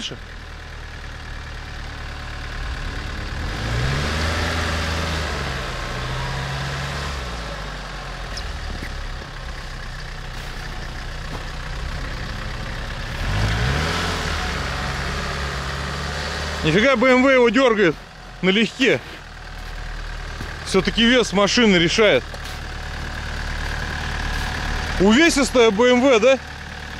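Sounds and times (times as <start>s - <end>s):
engine revving under load: 0.6s - 26.5s.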